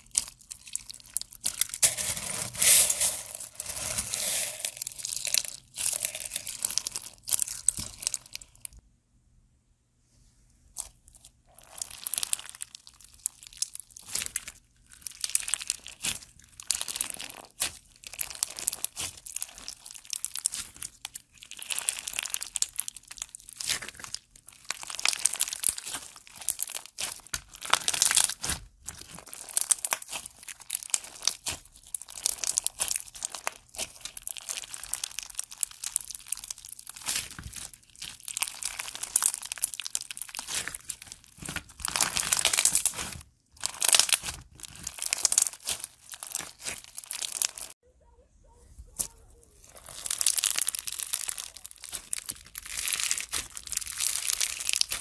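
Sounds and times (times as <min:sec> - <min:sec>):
slime with beads crunching: 0:00.0 - 0:08.8, 0:10.7 - 0:47.8, 0:48.9 - 0:55.0.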